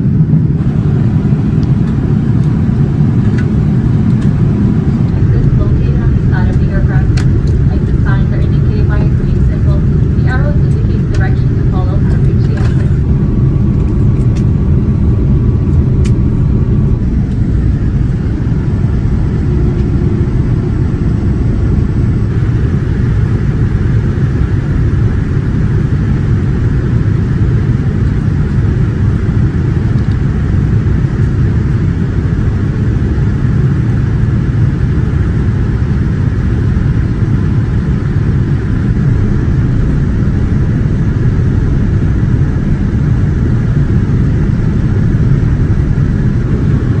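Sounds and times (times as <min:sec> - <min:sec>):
jet engine and airflow rumble: 0:00.0 - 0:47.0.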